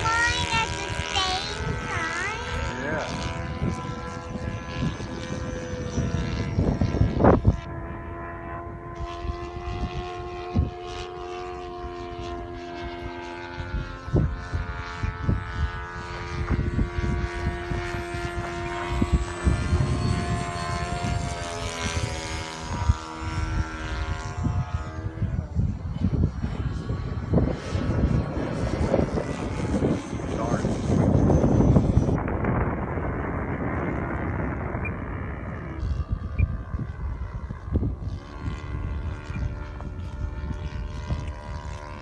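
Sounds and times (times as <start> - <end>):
electric jet high whine: 0.0 - 42.0
wind buffeting microphone: 0.0 - 42.0.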